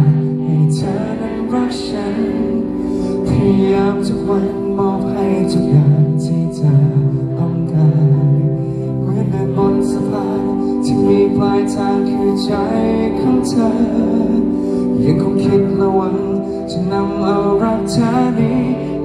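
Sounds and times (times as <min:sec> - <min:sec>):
live pop-rock band playing: 0:00.0 - 0:19.0
man singing: 0:00.0 - 0:19.0.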